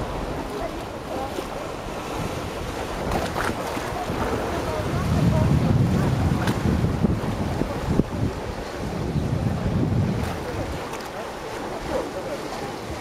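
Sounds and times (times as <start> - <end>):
waves lapping on stony shore: 0.0 - 13.0
wind buffeting microphone: 0.0 - 13.0.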